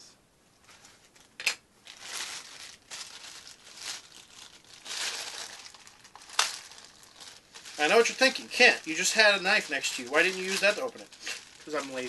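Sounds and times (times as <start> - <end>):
plastic bag crinkling and tearing: 1.8 - 12.0.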